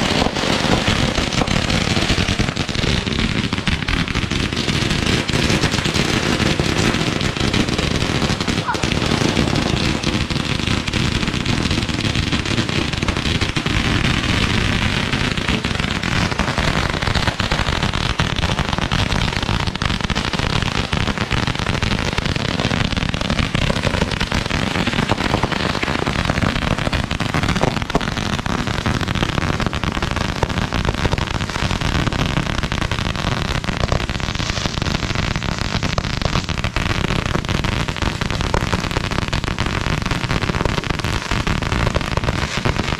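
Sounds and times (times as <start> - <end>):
fireworks crackling: 0.0 - 42.9.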